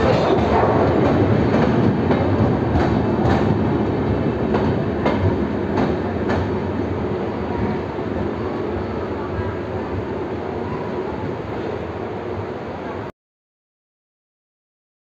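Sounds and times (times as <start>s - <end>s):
train coaches rumbling past: 0.0s - 13.1s.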